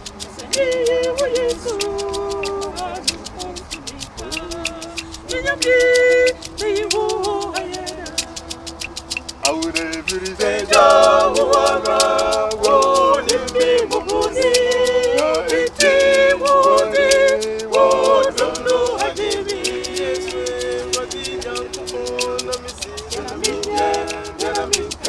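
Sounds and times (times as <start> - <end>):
quick percussion beat: 0.0 - 25.0
several voices singing: 0.0 - 25.0.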